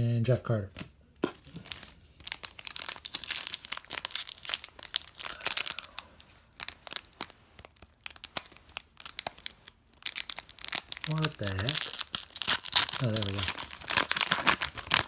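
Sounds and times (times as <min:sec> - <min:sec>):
wrapper crinkling and tearing: 0:01.2 - 0:15.0.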